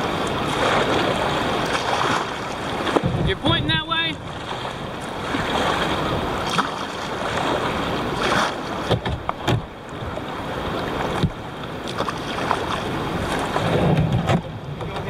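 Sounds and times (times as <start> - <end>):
river water rushing against hull: 0.0 - 15.0
splashes and knocks: 0.2 - 10.2, 10.8 - 15.0.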